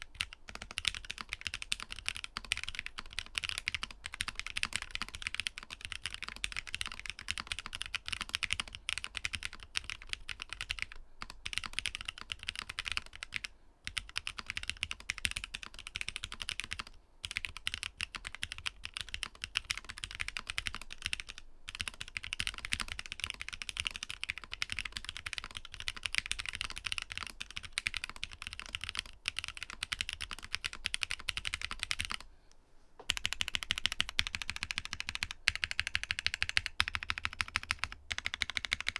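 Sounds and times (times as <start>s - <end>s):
mechanical keyboard typing: 0.0s - 32.2s, 33.1s - 38.9s.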